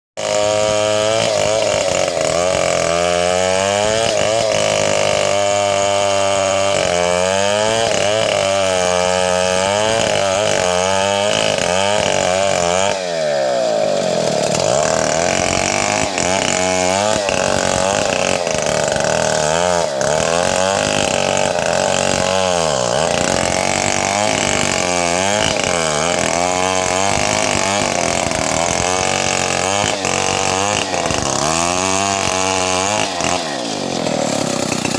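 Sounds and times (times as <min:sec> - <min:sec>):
chainsaw cutting wood: 0:00.2 - 0:34.9.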